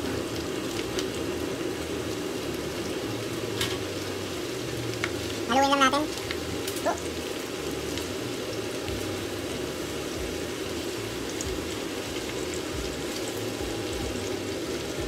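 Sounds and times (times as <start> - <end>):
meat and vegetables sizzling in pan: 0.0 - 15.0.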